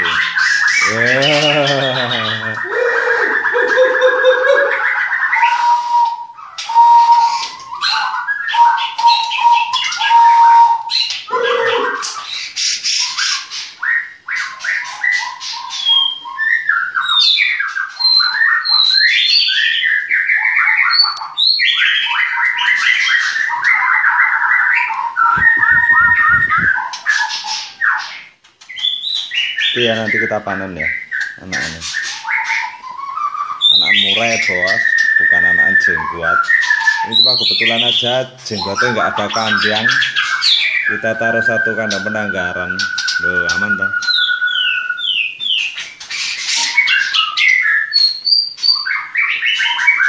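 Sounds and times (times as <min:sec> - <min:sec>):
bird squawks: 0:00.0 - 0:50.0
songbirds singing: 0:00.0 - 0:50.0
steady bird whistle: 0:00.0 - 0:50.0.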